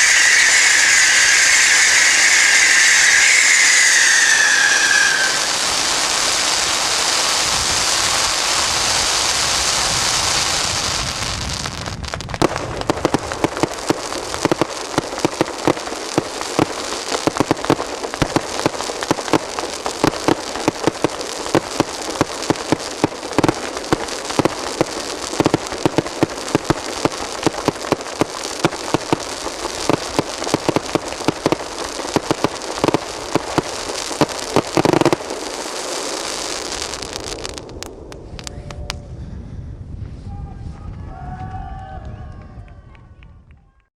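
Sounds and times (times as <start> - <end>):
fireworks hissing: 0.0 - 38.9
fireworks crackling and popping: 0.0 - 39.2.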